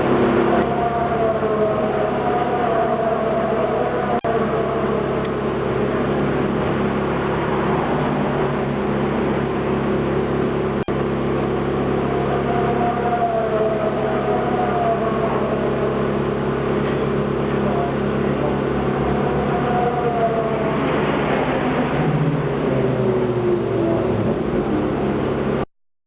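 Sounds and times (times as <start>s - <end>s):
car engine idling: 0.0s - 25.6s.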